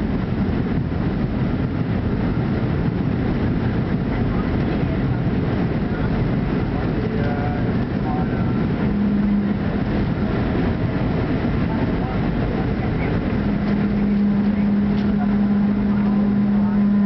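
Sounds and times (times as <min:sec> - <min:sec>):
aircraft cabin rumble: 0:00.0 - 0:17.0
low steady hum: 0:00.0 - 0:17.0.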